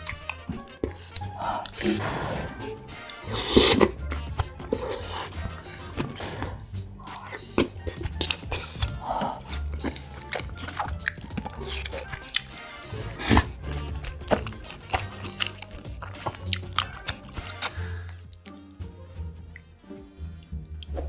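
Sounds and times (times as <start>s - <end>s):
biting and chewing: 0.0s - 18.6s
background music with bass line: 0.0s - 21.0s.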